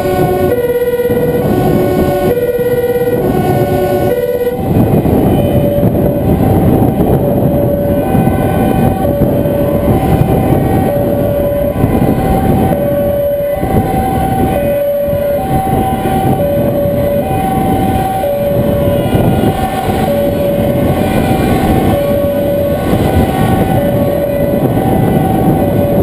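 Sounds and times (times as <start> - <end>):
engine and road noise rumble: 0.0 - 26.0
two-tone emergency siren: 0.0 - 26.0.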